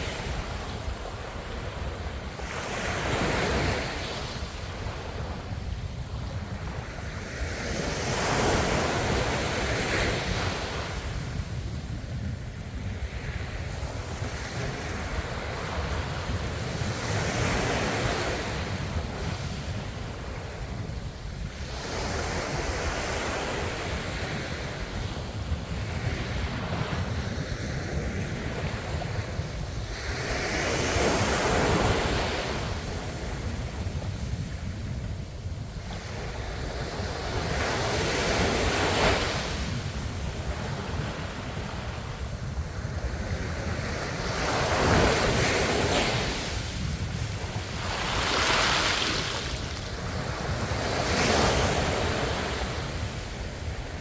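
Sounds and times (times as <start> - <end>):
ocean waves washing on shore: 0.0 - 54.0.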